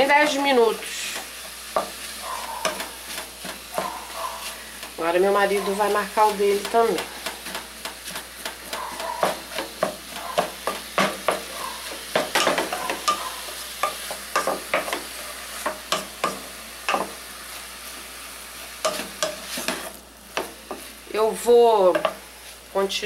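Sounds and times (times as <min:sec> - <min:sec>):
meat and onion sizzling: 0:00.0 - 0:23.0.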